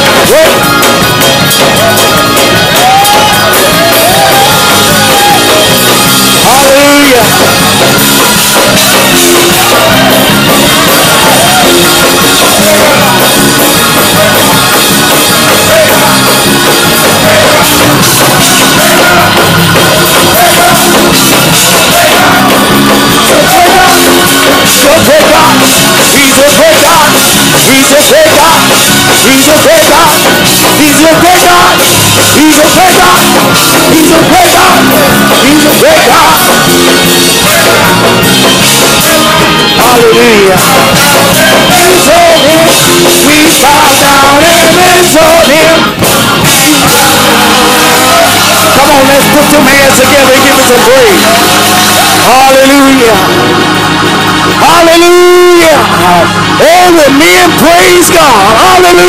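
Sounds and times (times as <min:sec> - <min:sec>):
gospel band playing: 0:00.0 - 0:59.0
voices singing: 0:00.0 - 0:59.0.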